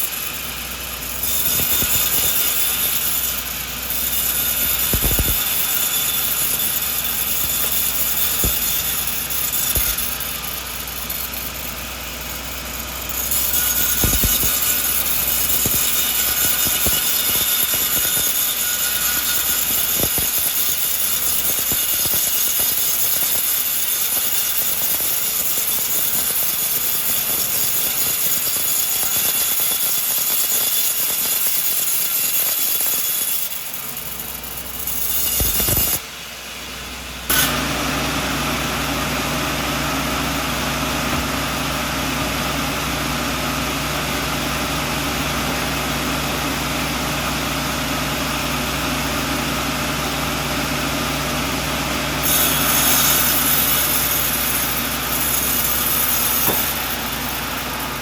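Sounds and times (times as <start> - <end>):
saw cutting through a log: 0.0 - 36.1, 37.3 - 58.0.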